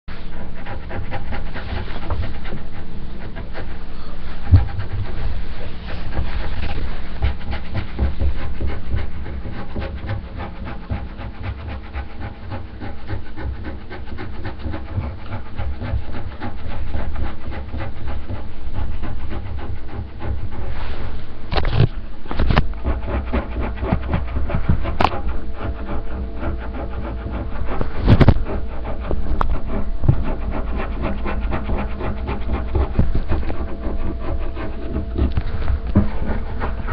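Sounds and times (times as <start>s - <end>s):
scratching under a table: 0.1s - 36.9s.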